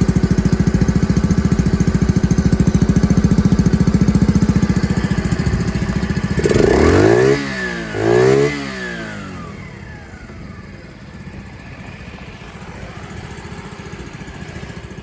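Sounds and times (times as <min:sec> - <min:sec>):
minibike engine revving and idling: 0:00.0 - 0:15.0.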